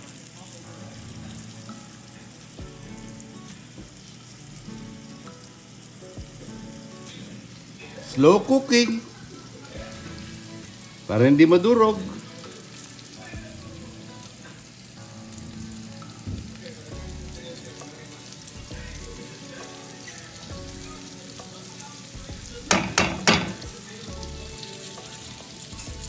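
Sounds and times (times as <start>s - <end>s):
fish sizzling in a pan: 0.0s - 26.0s.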